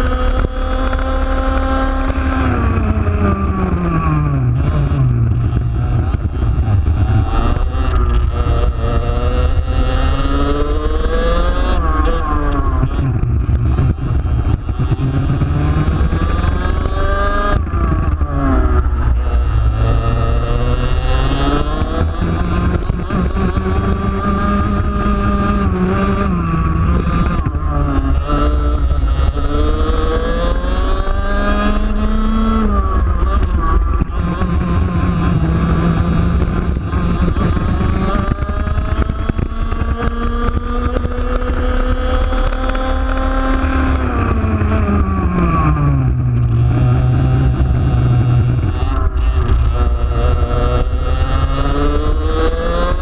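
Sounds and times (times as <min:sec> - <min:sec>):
racing kart engine: 0:00.0 - 0:53.0.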